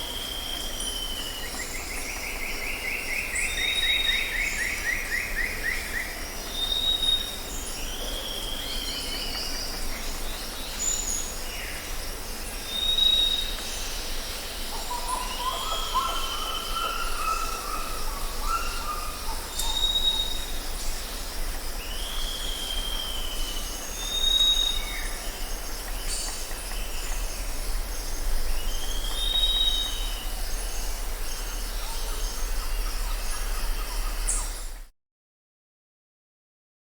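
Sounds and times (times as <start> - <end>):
high insect drone: 0.1 - 34.8.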